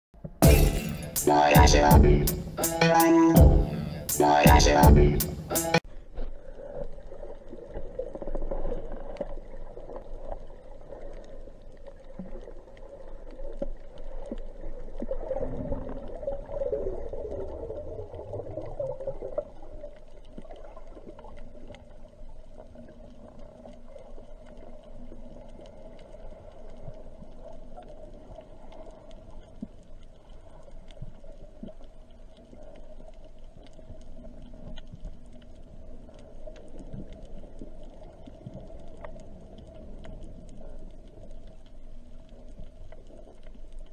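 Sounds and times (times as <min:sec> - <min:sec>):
faint clicks and crackles: 0:05.9 - 0:43.9.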